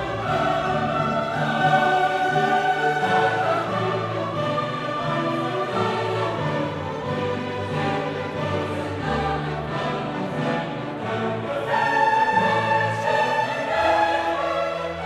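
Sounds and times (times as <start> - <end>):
choir singing with orchestra: 0.0 - 15.0.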